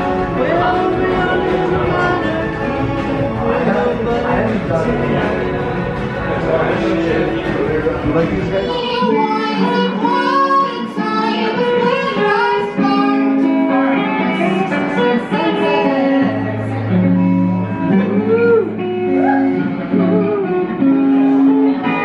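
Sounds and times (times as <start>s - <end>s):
strummed guitar chords: 0.0s - 22.0s.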